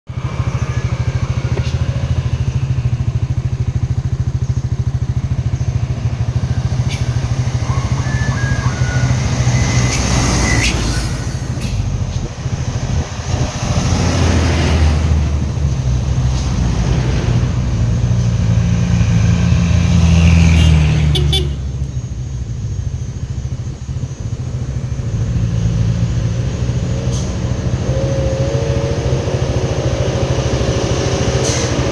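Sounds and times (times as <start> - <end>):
motorcycles passing: 0.1 - 31.9
traffic rumble: 0.1 - 31.9.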